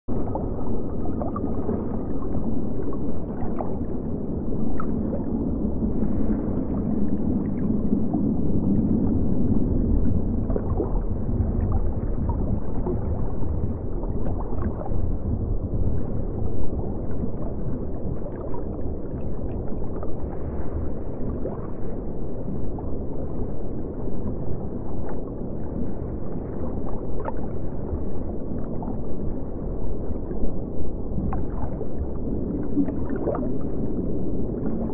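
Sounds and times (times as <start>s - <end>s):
muffled underwater rumble: 0.0s - 34.9s.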